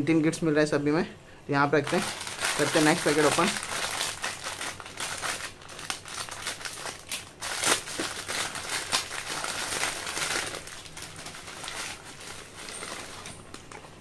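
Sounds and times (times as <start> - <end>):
foil packet crinkling: 1.8 - 14.0
paper-wrapped contents rustling: 1.8 - 14.0.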